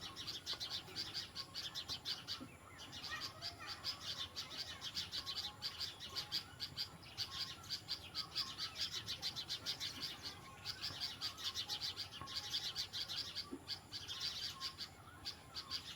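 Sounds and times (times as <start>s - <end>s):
small birds alarm calls: 0.0s - 15.9s.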